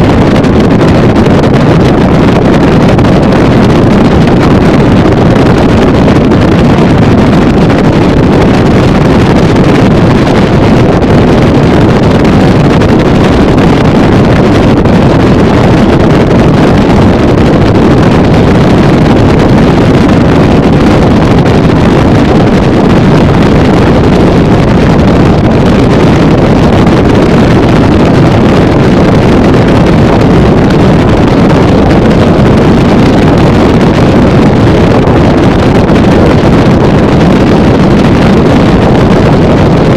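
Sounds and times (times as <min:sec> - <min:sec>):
motorboat engine: 0:00.0 - 0:39.9
wind on microphone: 0:00.0 - 0:39.9.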